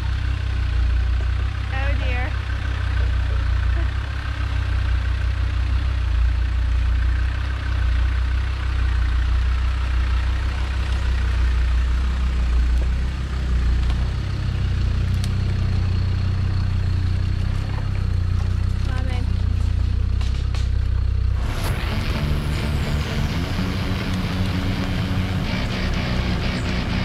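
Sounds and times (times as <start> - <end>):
car engine running low revs: 0.0 - 27.0.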